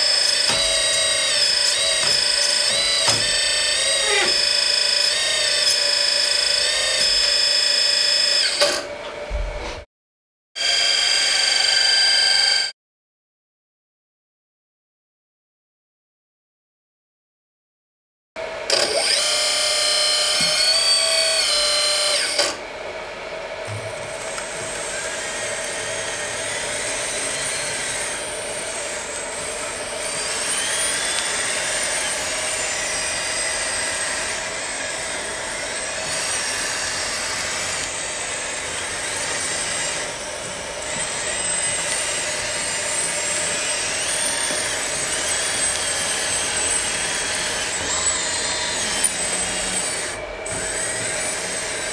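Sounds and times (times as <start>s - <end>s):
hydraulic pump whine: 0.0s - 9.7s, 18.4s - 22.7s, 23.5s - 51.9s.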